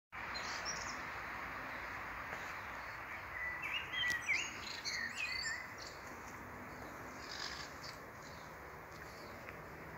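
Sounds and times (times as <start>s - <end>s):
steady outdoor hiss: 0.2s - 9.9s
bird chirping: 0.3s - 9.6s.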